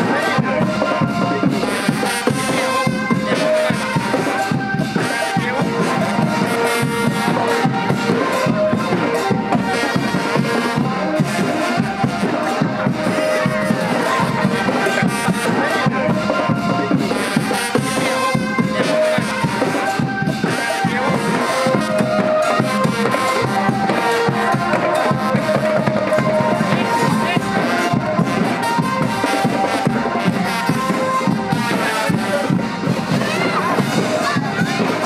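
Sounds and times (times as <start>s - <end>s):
reedy wind and brass melody: 0.0s - 35.0s
upbeat music with drums: 0.0s - 35.0s.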